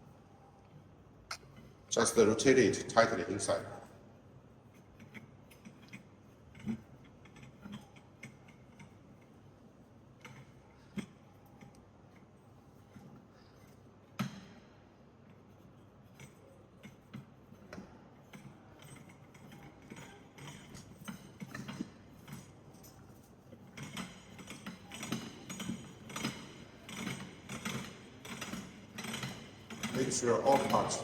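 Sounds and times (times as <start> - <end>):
trolley parts clicking and knocking: 4.7 - 31.0.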